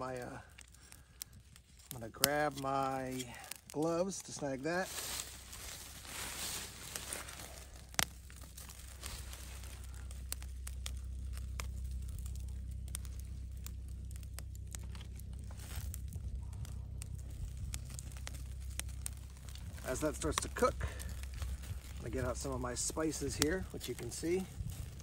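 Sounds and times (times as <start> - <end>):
campfire crackling: 0.0 - 25.0
low steady rumble: 0.0 - 25.0.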